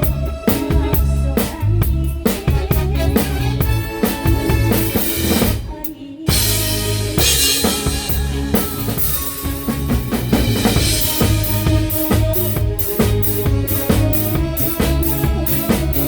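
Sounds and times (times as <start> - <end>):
drum kit beat: 0.0 - 16.0
live band playing: 0.0 - 16.0.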